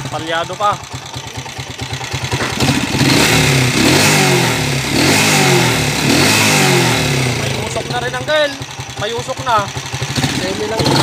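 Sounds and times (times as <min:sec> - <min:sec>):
clacking engine noise: 0:00.0 - 0:11.0
motorcycle engine revving and misfiring: 0:00.0 - 0:11.0.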